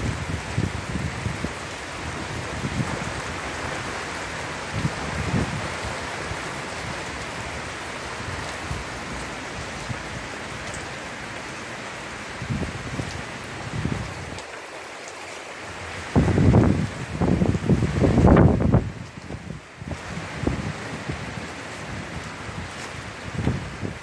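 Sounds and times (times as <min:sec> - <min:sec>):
wind gusts on microphone: 0:00.0 - 0:10.8, 0:12.2 - 0:14.4, 0:15.8 - 0:24.0
heavy rain on roof: 0:00.0 - 0:24.0.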